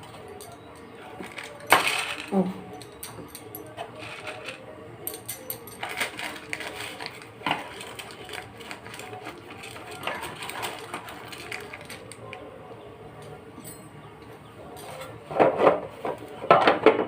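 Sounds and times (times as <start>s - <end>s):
utensils and dishes clinking: 0.0s - 17.0s.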